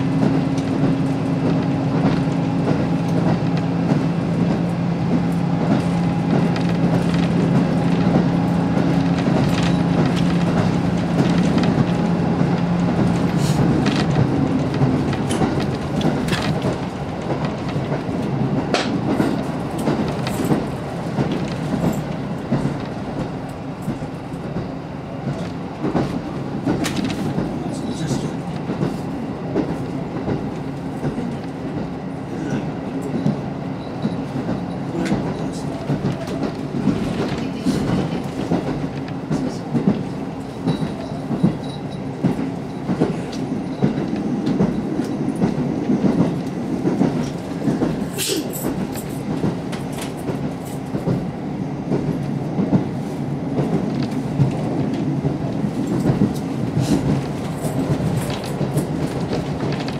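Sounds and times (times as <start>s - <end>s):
railcar engine drone: 0.0s - 59.9s
wheels clicking over rails: 0.1s - 51.3s, 53.5s - 59.9s.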